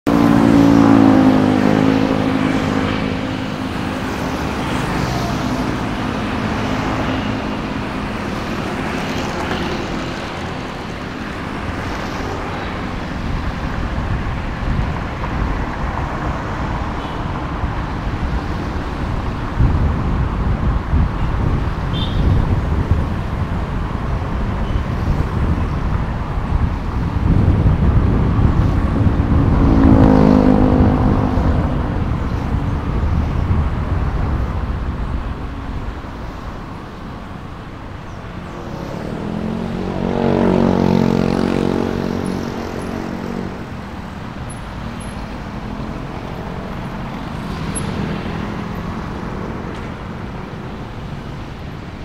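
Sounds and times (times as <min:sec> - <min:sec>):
car road and engine noise: 0:00.0 - 0:52.0
tyres and traffic rushing: 0:00.0 - 0:52.0.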